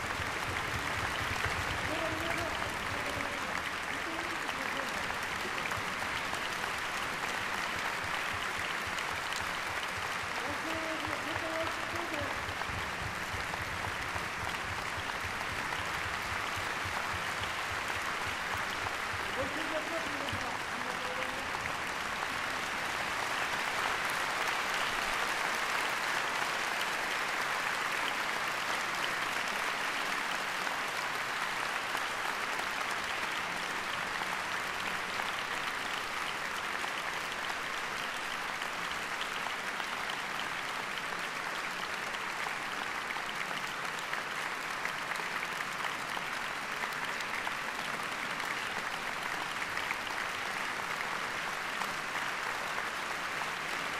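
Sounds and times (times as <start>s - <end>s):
audience applauding: 0.0s - 53.9s.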